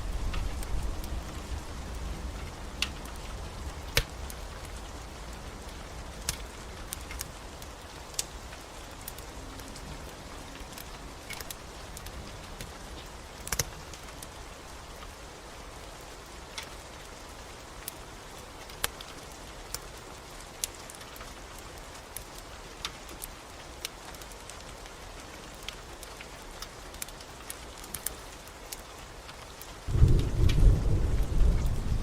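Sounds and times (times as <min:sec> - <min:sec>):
rain hiss: 0:00.0 - 0:32.0
wood fire popping and crackling: 0:00.0 - 0:32.0.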